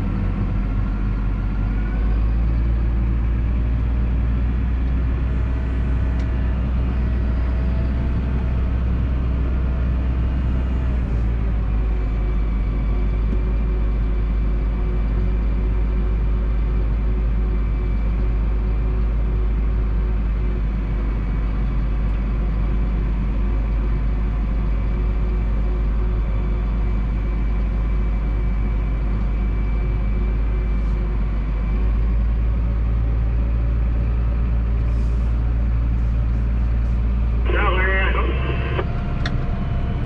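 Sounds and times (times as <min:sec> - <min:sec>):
engine whine: 0:00.0 - 0:40.0
tractor diesel engine running: 0:00.0 - 0:40.0.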